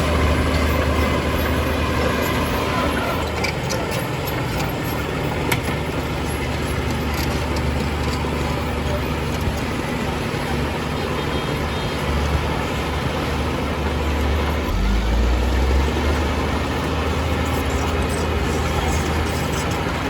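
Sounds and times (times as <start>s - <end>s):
heavy diesel engine rumbling: 0.0s - 20.0s.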